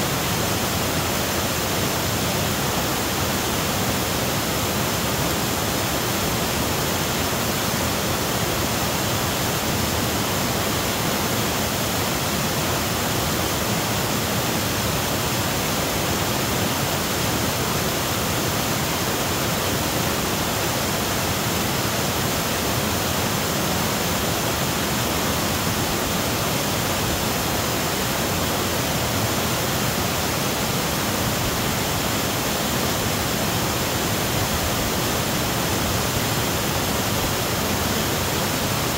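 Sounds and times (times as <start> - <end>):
waterfall rushing over boulders: 0.0 - 38.9.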